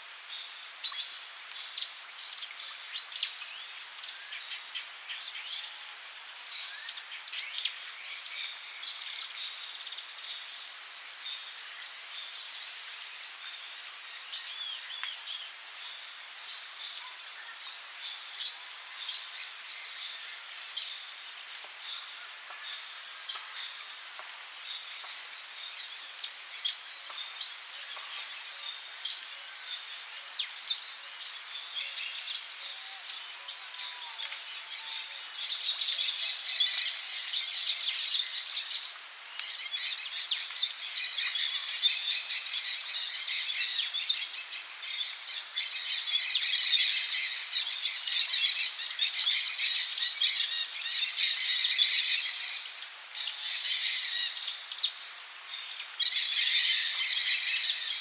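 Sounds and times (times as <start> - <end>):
high insect drone: 0.0 - 58.0
insects and birds chirping: 0.0 - 58.0.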